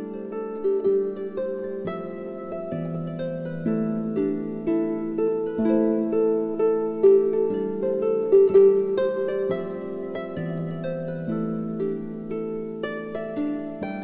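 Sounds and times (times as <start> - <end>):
harp folk melody: 0.0 - 14.0.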